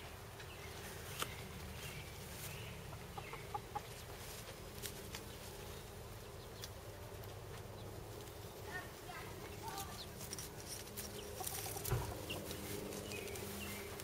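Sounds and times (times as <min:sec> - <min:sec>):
low background hum: 0:00.0 - 0:14.0
chickens clucking: 0:00.1 - 0:14.0.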